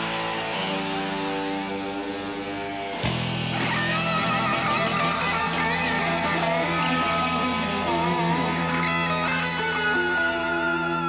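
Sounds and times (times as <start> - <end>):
electric guitar bending notes: 0.0 - 11.0
live rock band playing: 0.0 - 11.0
low bass notes: 1.2 - 10.2.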